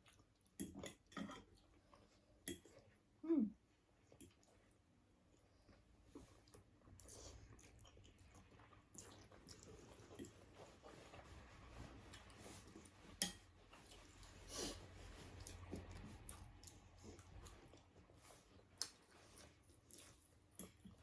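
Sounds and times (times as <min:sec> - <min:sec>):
people chewing: 0:04.0 - 0:21.0.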